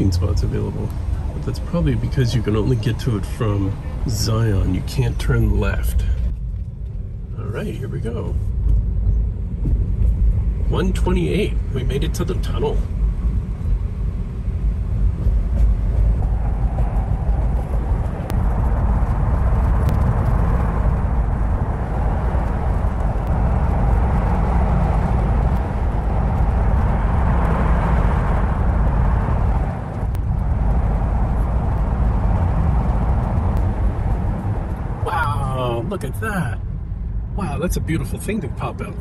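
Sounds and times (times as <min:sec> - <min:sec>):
deep road rumble in car cabin: 0:00.0 - 0:39.0.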